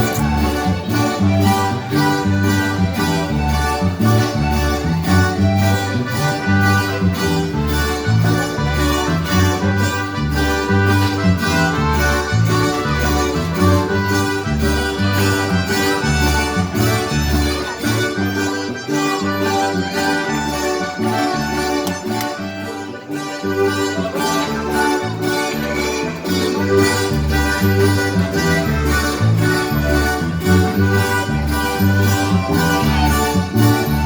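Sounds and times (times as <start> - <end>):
instrumental music with bass line: 0.0 - 34.0.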